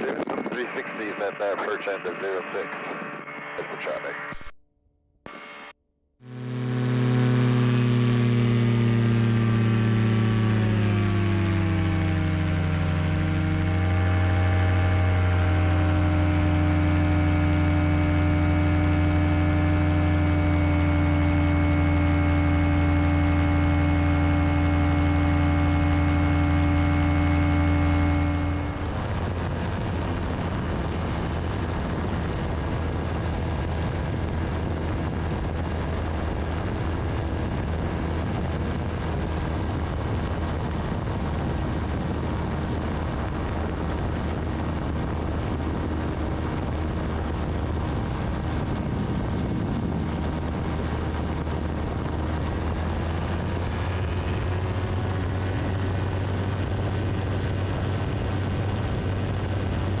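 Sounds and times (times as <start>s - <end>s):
light aircraft engine droning: 0.0s - 4.4s, 6.2s - 60.0s.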